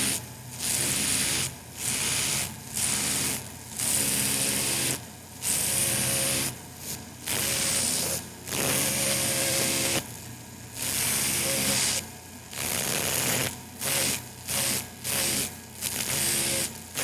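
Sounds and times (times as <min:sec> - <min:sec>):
dentist's drill whirring: 0:00.0 - 0:10.1, 0:10.8 - 0:17.0.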